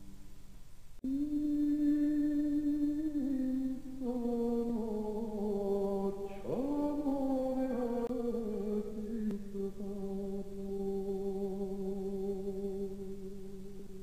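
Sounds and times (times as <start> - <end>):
droning chant-like music: 1.0 - 14.0.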